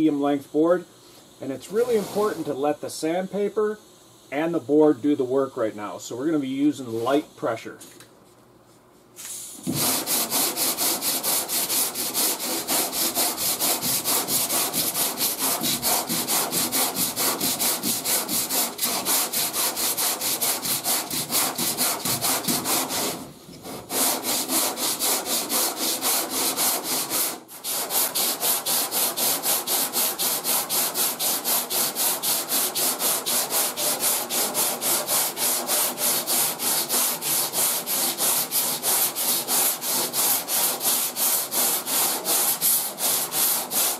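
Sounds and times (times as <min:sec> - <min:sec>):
sandpaper rasping over filler: 0:01.4 - 0:02.6, 0:09.2 - 0:43.9.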